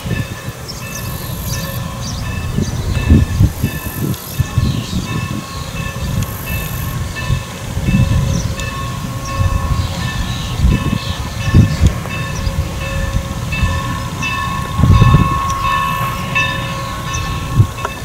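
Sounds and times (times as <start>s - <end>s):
distant steam locomotive rumble: 0.0s - 18.0s
thin high tone: 0.0s - 18.0s.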